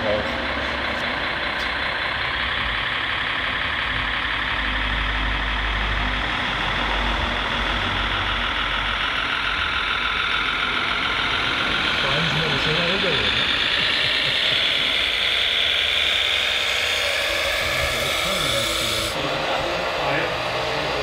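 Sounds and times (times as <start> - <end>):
toy truck engine: 0.0 - 21.0.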